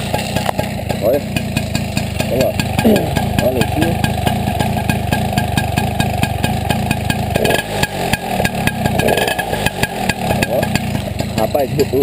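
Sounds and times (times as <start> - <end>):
moped engine idling: 0.0 - 12.0.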